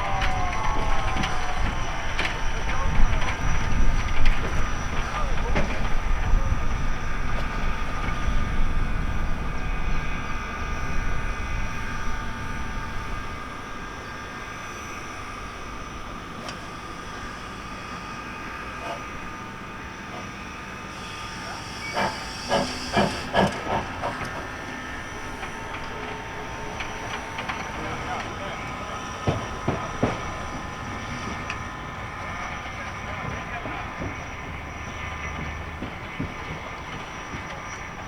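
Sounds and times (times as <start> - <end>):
low locomotive rumble: 0.0 - 38.0
steam locomotive hissing steam: 0.0 - 38.0.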